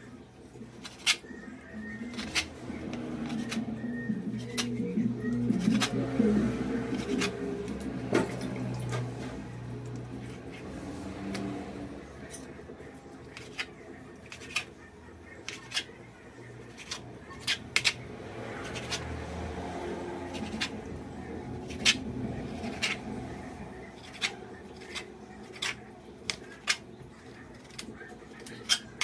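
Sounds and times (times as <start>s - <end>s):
knife cutting raw chicken: 0.7s - 12.5s, 13.2s - 29.0s.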